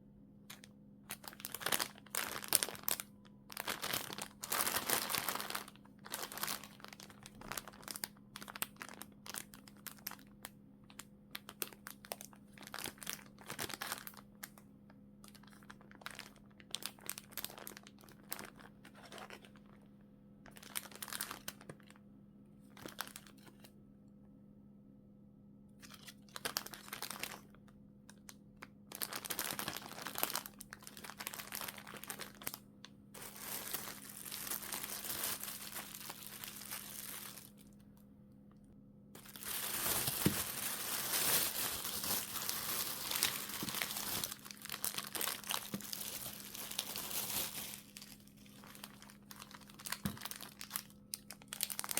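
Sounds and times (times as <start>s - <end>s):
faint steady hum: 0.0s - 51.9s
plastic film crinkling: 0.5s - 14.6s, 15.2s - 19.8s, 20.5s - 22.0s, 22.7s - 23.7s, 25.8s - 27.6s, 28.9s - 32.6s, 33.2s - 37.8s, 39.2s - 51.9s.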